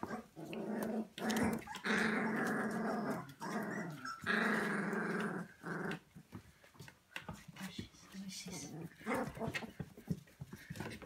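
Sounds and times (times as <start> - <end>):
puppies growling: 0.0 - 11.0.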